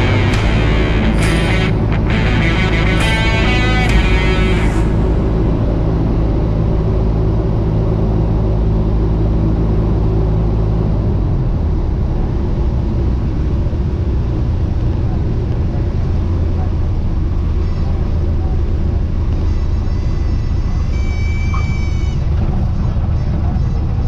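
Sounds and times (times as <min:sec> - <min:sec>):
airplane engine and propeller drone: 0:00.0 - 0:24.0.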